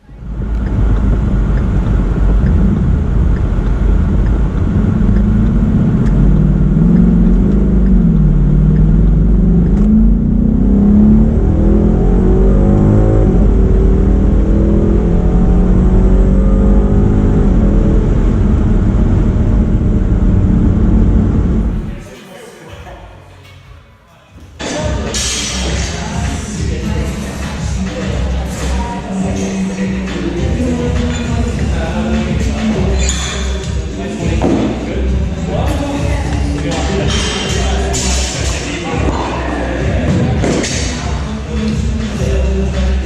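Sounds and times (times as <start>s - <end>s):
car engine revving: 0.0s - 22.1s, 24.7s - 43.0s.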